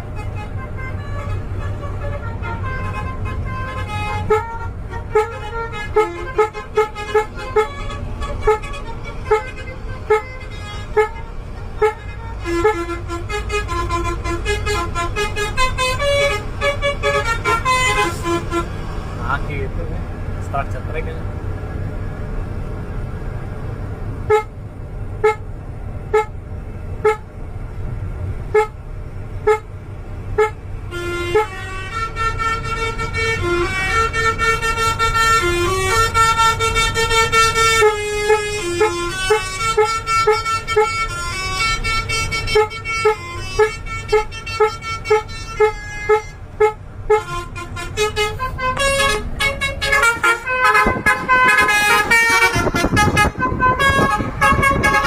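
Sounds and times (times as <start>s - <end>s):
musical bus horns tooting: 0.0s - 19.8s, 24.1s - 27.4s, 28.4s - 55.0s
low engine rumble: 0.0s - 55.0s.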